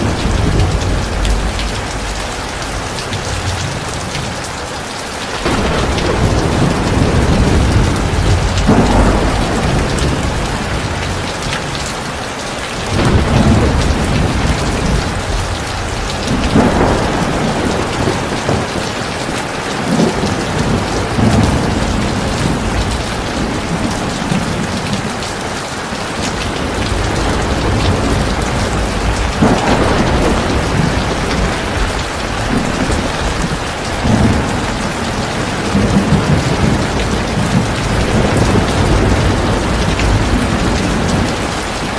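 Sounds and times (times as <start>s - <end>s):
heavy rain pouring: 0.0s - 41.9s
thunder rumbling: 0.0s - 41.9s.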